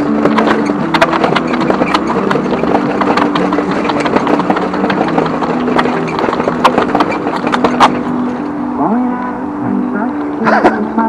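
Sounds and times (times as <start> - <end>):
rushing noise of riding: 0.0 - 9.1.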